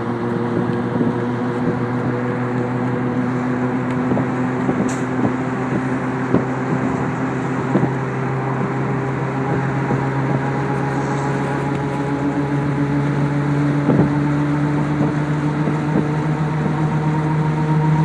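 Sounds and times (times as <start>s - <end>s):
aircraft engine drone in cabin: 0.0s - 18.0s.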